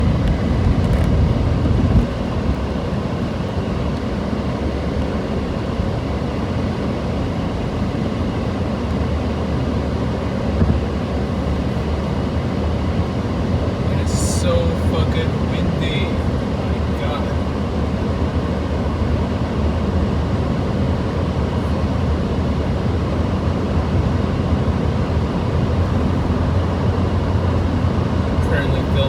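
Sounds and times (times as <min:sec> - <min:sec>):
road noise: 0:00.0 - 0:29.0
strong wind buffeting a car: 0:00.0 - 0:29.0.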